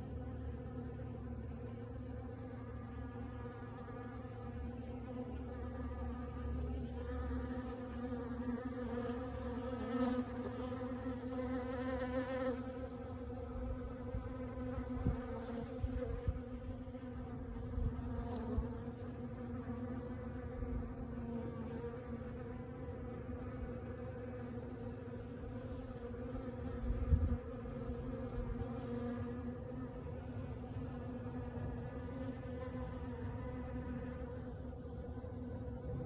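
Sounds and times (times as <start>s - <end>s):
bees buzzing: 0.0s - 36.0s.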